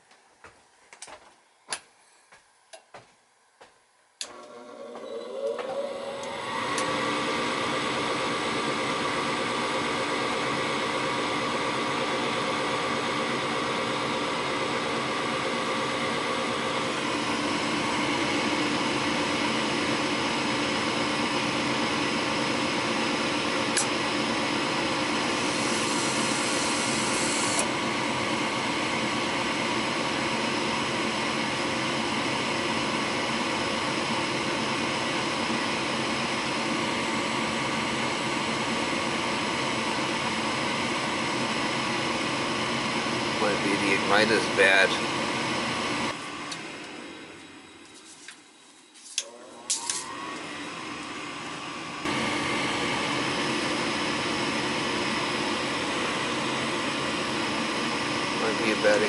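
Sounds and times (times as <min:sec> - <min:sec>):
furnace inducer motor humming: 0:04.2 - 0:48.0, 0:49.2 - 0:59.0.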